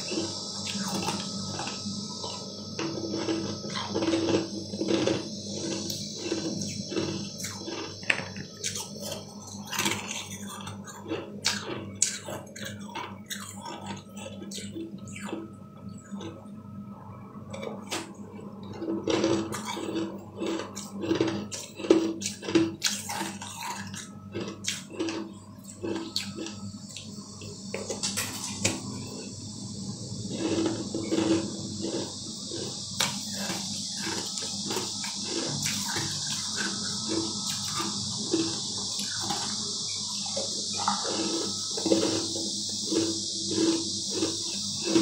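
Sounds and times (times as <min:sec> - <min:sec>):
chewing ice dessert: 0:00.0 - 0:45.0.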